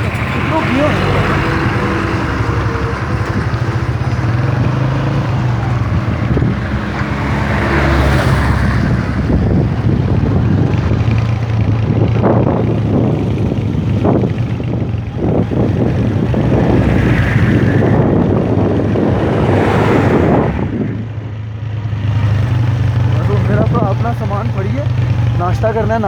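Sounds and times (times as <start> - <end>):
wind noise on microphone: 0.0 - 23.9
vehicle engine humming: 0.0 - 26.0.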